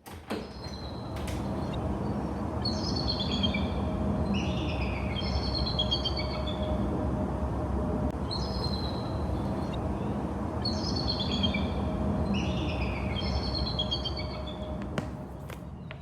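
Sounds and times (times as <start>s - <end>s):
birds chirping: 0.4s - 7.1s, 8.1s - 16.0s
low background rumble: 0.8s - 16.0s.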